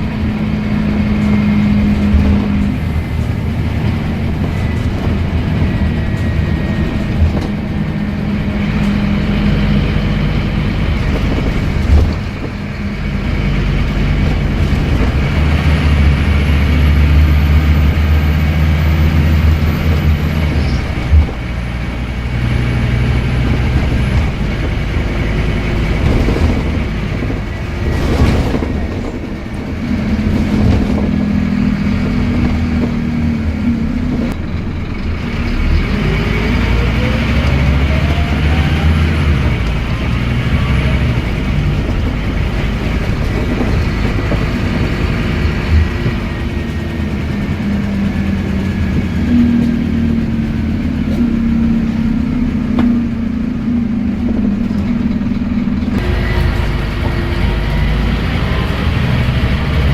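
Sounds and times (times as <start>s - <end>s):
bus diesel engine running: 0.0s - 59.9s
gearbox whine: 0.0s - 59.9s.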